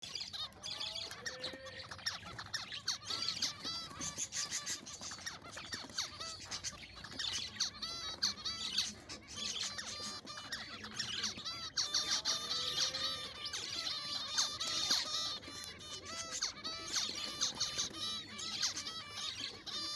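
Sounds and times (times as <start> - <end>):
finches chirping: 0.0 - 19.9.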